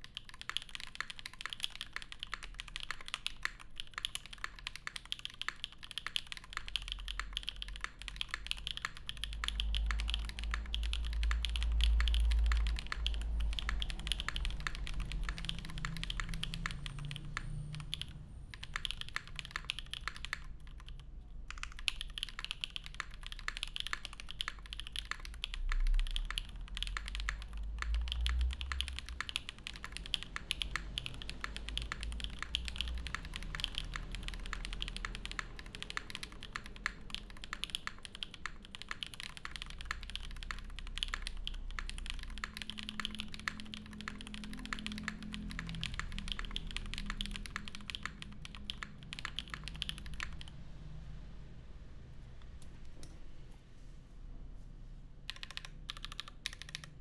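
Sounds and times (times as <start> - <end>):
mechanical keyboard typing: 0.0 - 50.6, 55.2 - 57.0.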